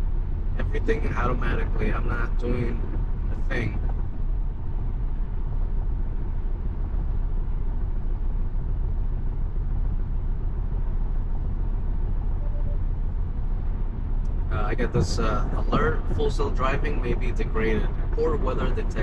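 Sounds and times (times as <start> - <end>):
car road and tyre noise: 0.0 - 19.0.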